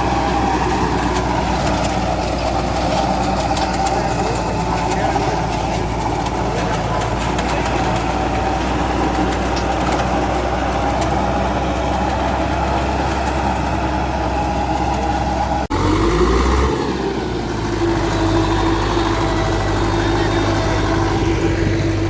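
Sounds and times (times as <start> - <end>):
engine drone with rising whine: 0.0 - 22.0
tractor engine running: 0.0 - 22.0.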